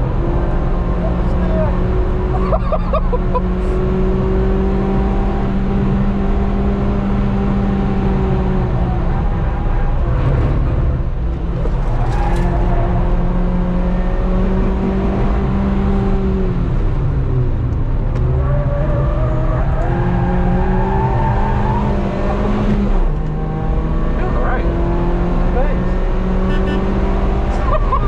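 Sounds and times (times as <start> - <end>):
car engine pulling hard: 0.0 - 28.0.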